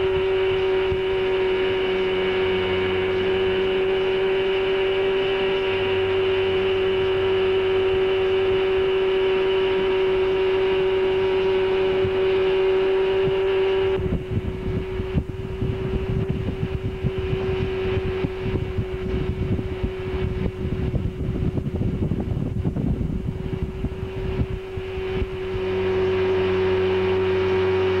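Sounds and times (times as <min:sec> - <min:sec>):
boat engine droning: 0:00.0 - 0:28.0
wind buffeting microphone: 0:00.0 - 0:28.0.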